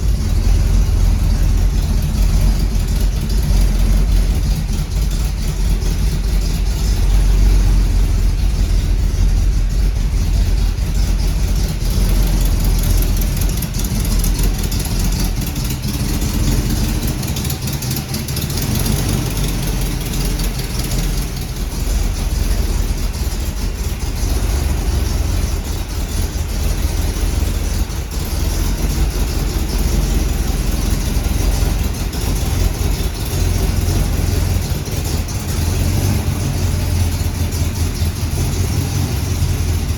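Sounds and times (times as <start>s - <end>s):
car engine deep rumble: 0.0s - 39.9s.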